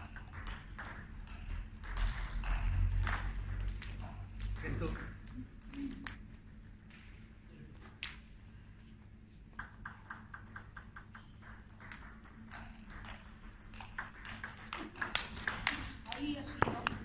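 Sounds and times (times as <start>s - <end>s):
table tennis ball bouncing: 0.0s - 8.2s, 9.5s - 17.0s
ball clicking off rackets: 0.0s - 8.3s, 9.5s - 17.0s.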